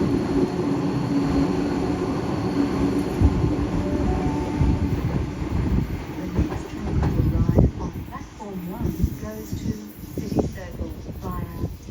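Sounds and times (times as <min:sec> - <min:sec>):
train wheels rumbling on rail: 0:00.0 - 0:11.9.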